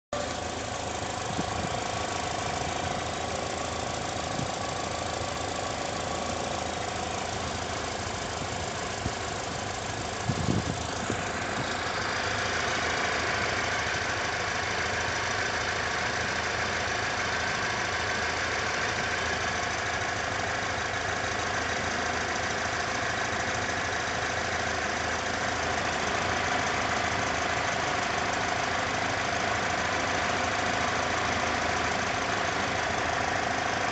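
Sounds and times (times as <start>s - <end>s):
engine running steadily: 0.1s - 33.9s.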